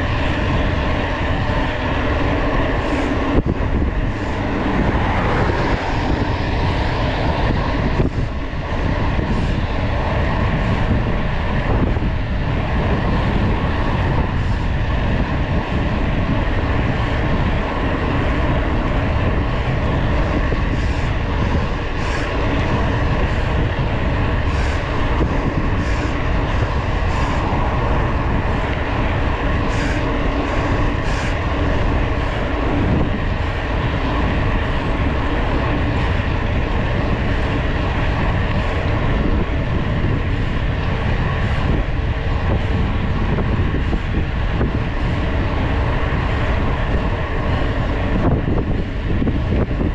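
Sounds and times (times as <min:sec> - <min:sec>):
bike tyres rolling on asphalt: 0:00.0 - 0:49.9
wind rushing over microphone: 0:00.0 - 0:49.9.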